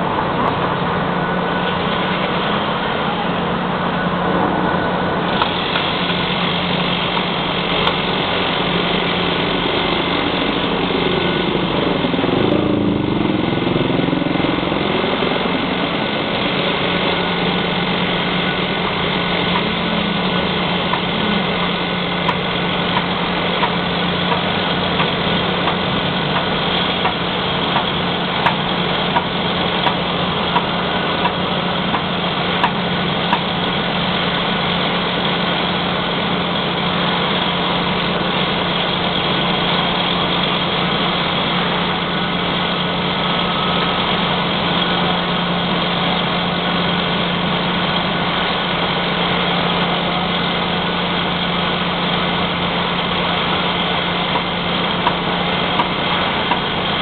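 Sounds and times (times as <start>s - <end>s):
crane diesel engine running: 0.0s - 57.0s.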